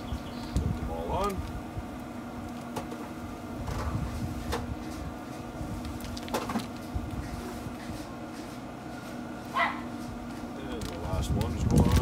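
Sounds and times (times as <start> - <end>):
grill fan humming: 0.0 - 12.0.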